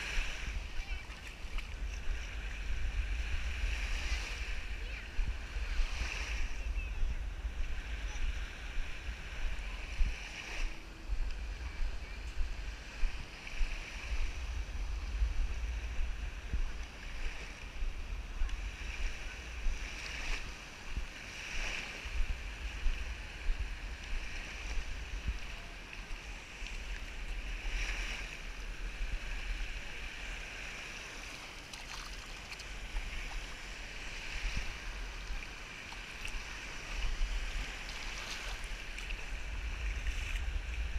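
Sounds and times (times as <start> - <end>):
small waves washing onto sand: 0.0 - 40.9
wind on microphone: 0.0 - 40.9.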